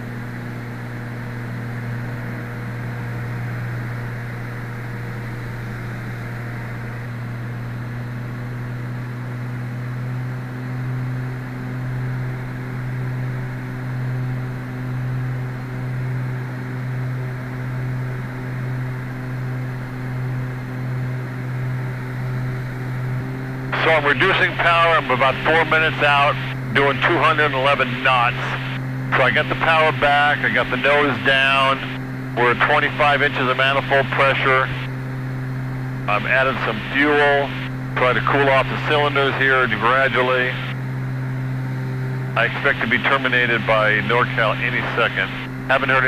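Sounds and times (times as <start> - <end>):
propeller engines droning: 0.0 - 46.0.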